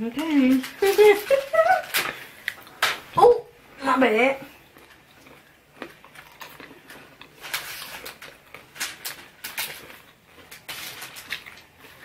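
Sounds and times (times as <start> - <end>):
candy being chewed crunching: 0.2 - 3.0, 4.5 - 12.0.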